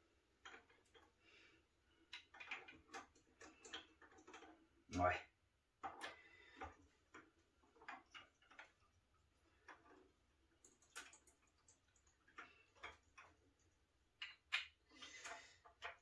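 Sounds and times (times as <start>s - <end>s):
small plastic parts clicking: 2.0s - 4.6s, 5.8s - 16.0s.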